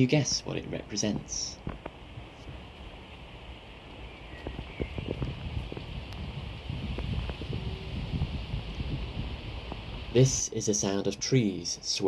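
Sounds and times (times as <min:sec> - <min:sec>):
wind through tree branches: 0:00.0 - 0:12.0.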